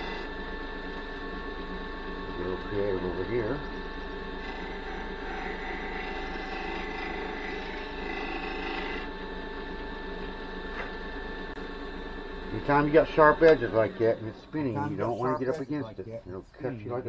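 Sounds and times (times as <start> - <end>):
wood lathe humming: 0.0 - 17.0.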